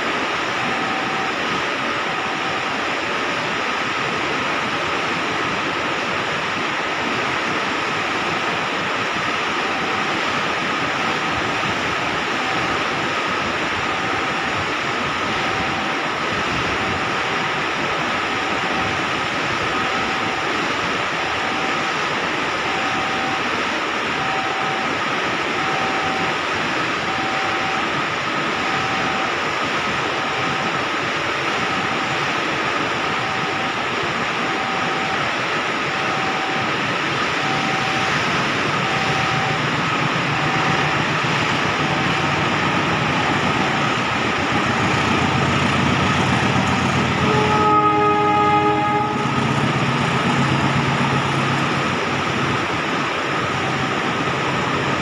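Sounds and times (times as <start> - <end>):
level crossing warning bell: 0.0 - 55.0
steady rushing noise: 0.0 - 55.0.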